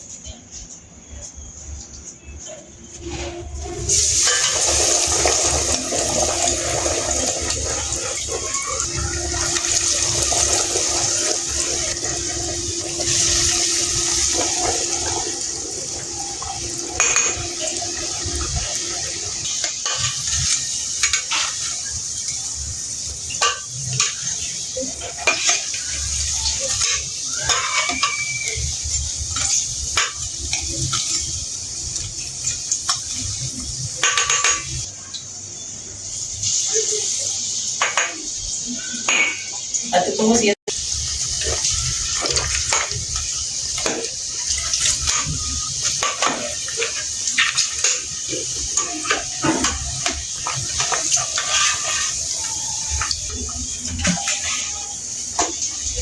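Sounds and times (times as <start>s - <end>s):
food sizzling in a hot pan: 3.0s - 56.0s.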